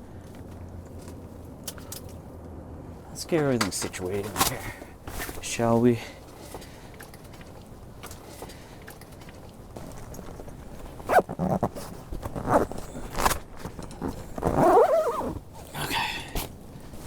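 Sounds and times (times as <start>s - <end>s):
rustling and scraping: 3.2s - 17.0s.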